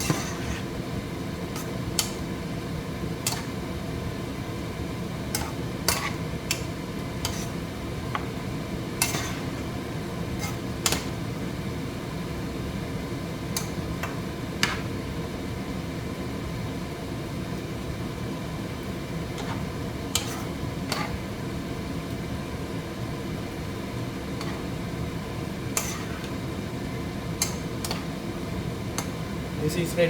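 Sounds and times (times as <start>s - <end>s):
low kitchen hum: 0.0s - 30.0s.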